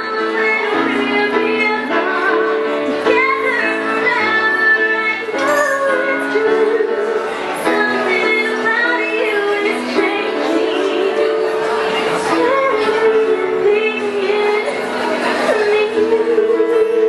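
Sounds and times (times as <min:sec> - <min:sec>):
digital piano chords: 0:00.0 - 0:17.0
woman singing a ballad: 0:00.0 - 0:17.0.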